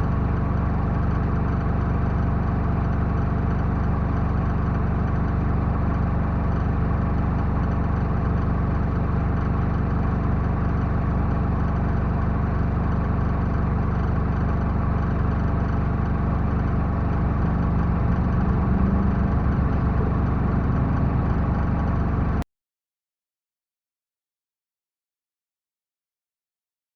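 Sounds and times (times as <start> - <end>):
diesel engine running: 0.0 - 22.4.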